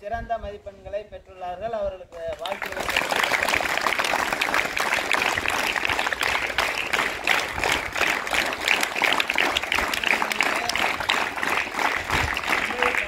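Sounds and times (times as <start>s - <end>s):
children clapping: 2.2s - 13.0s.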